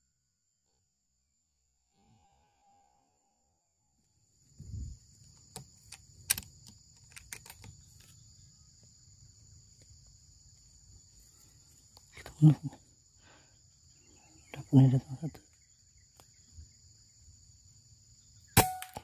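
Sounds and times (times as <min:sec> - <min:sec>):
insect chirring: 0:01.3 - 0:19.0.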